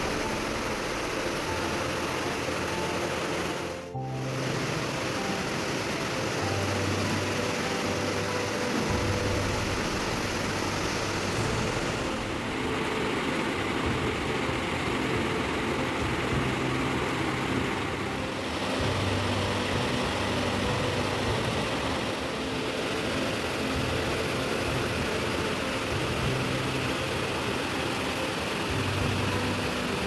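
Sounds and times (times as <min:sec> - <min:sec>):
low droning tones: 0:00.0 - 0:30.0
steady rain hiss: 0:00.0 - 0:30.0.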